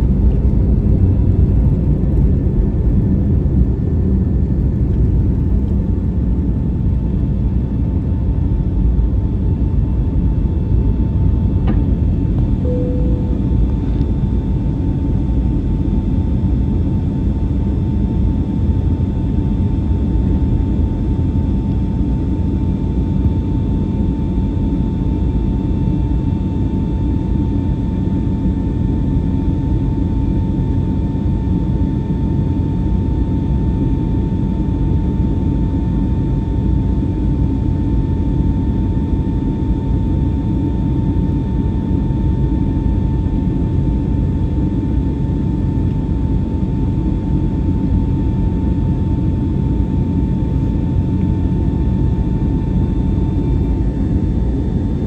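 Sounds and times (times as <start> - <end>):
constant whine: 0.0 - 55.0
jet engine and airflow rumble: 0.0 - 55.0.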